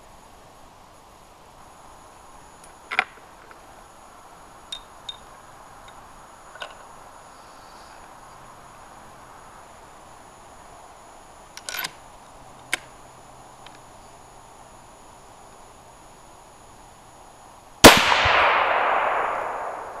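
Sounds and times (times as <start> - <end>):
low hiss: 0.0 - 20.0.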